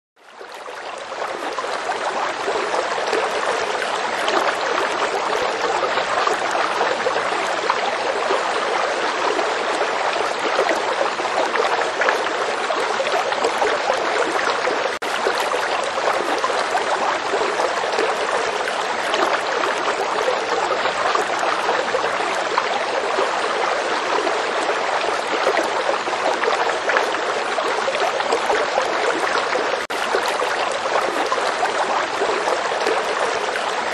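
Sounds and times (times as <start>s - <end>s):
stream rushing over rocks: 0.4s - 33.9s.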